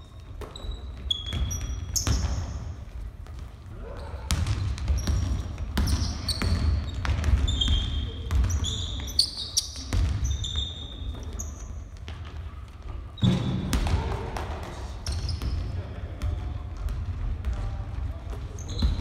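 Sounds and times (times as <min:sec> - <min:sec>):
sneakers squeaking: 0:00.0 - 0:19.0
basketballs bouncing on hardwood: 0:00.2 - 0:09.2, 0:09.8 - 0:19.0.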